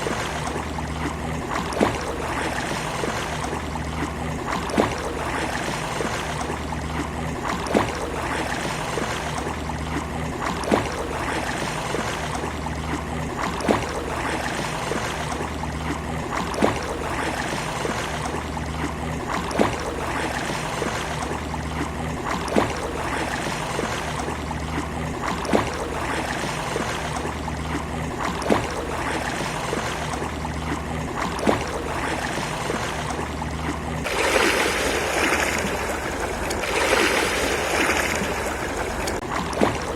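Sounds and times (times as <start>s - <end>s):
sea water washing on shore: 0.0s - 39.9s.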